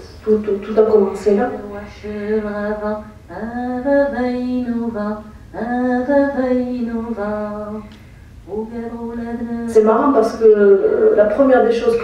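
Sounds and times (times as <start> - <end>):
woman singing over loudspeakers: 0.0 - 12.0.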